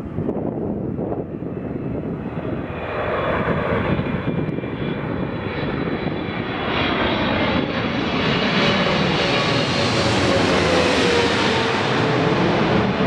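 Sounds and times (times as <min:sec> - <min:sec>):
jet engines deep rumble: 0:00.0 - 0:13.0.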